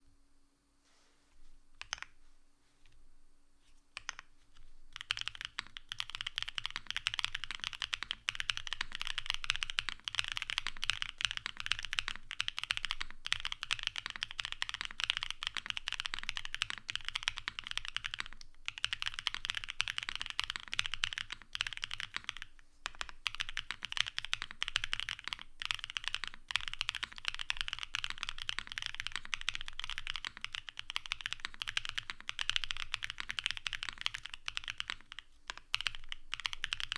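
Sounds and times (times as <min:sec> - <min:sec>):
mechanical keyboard typing: 0:01.8 - 0:02.1, 0:04.9 - 0:36.9.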